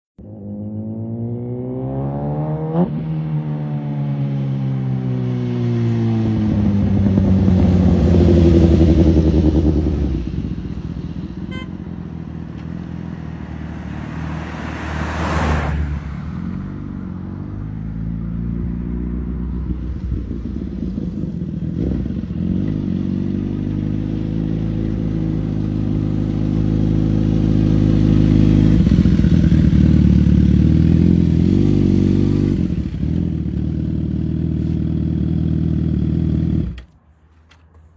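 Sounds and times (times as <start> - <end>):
motorcycle engine revving: 0.2 - 15.6, 16.2 - 37.6.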